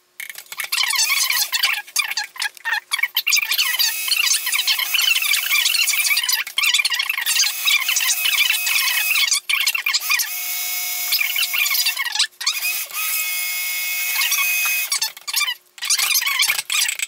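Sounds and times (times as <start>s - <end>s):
stick blender motor whirring: 3.2s - 17.0s.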